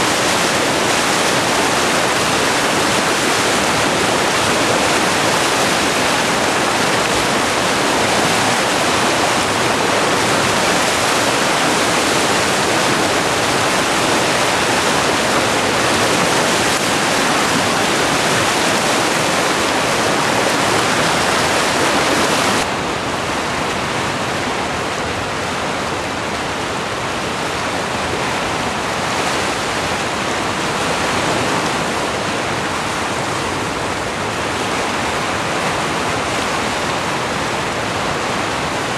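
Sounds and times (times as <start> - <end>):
rapids rushing: 0.0 - 38.9.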